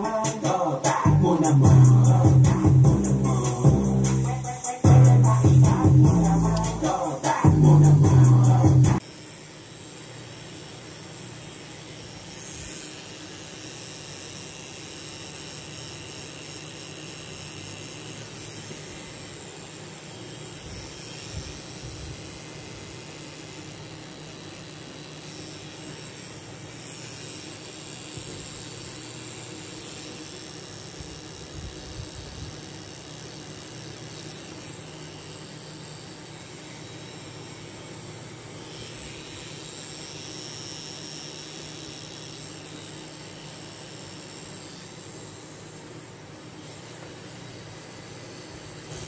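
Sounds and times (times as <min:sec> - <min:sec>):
tattoo machine humming: 0:00.0 - 0:49.0.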